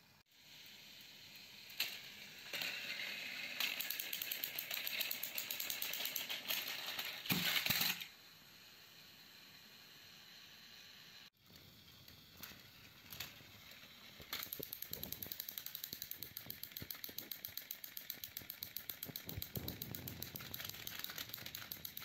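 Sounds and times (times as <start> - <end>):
toy trains whirring and rattling: 0.2 - 22.0.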